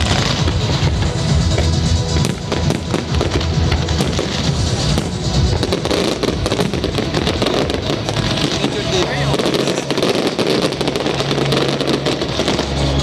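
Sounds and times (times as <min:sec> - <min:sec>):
fireworks cracking and crackling: 0:00.0 - 0:13.0
music with heavy bass: 0:00.0 - 0:13.0.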